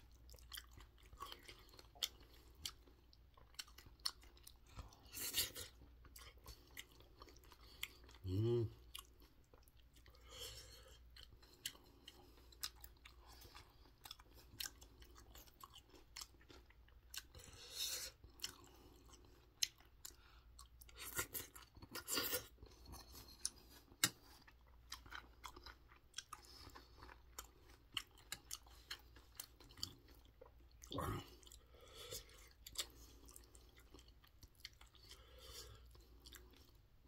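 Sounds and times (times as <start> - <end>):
person chewing: 0.0 - 37.0.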